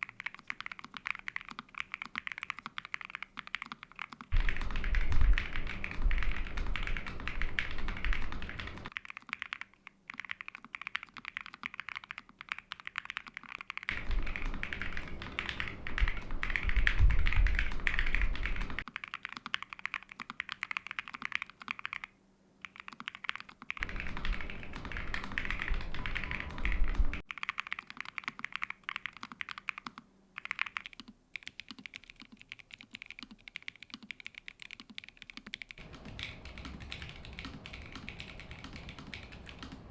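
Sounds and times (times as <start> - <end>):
mechanical keyboard typing: 0.1 - 39.9.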